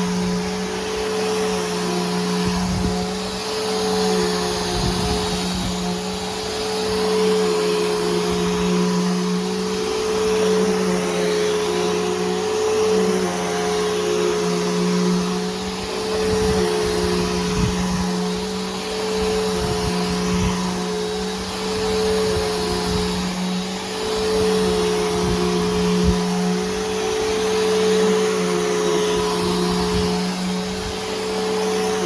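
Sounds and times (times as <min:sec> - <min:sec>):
upright vacuum cleaner running: 0:00.0 - 0:32.0.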